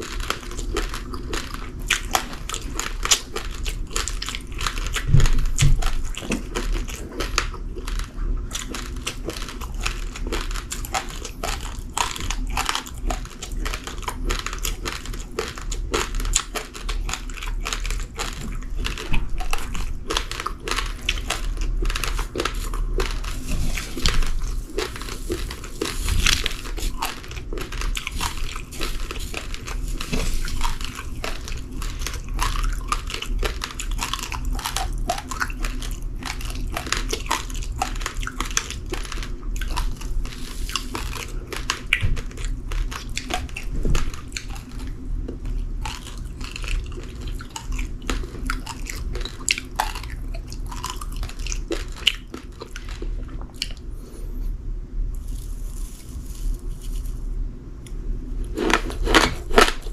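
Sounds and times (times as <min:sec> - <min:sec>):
chewing crunchy rice: 0:00.0 - 0:59.9.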